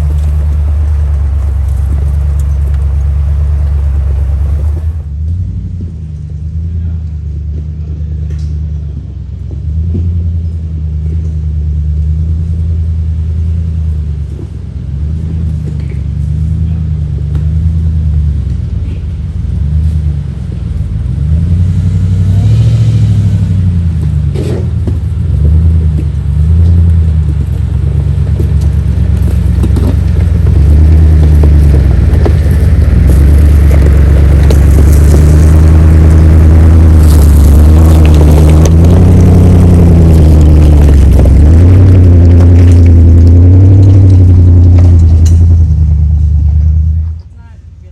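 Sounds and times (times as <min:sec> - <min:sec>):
vehicle engine revving: 0:00.0 - 0:07.6, 0:09.8 - 0:47.2.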